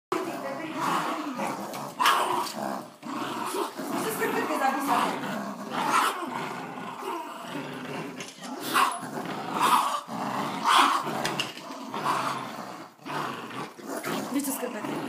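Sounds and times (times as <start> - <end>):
dogs growling in play: 0.1 - 15.0.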